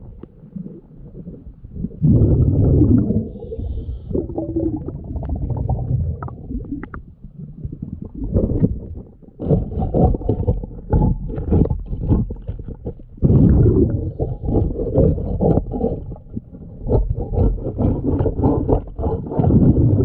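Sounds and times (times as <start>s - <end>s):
underwater exhaled bubbles rumbling: 0.0s - 20.0s.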